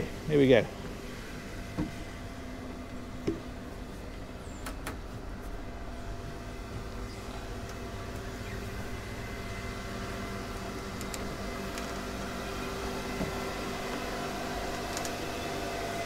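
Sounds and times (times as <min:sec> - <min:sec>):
engine room machinery hum: 0:00.0 - 0:16.0.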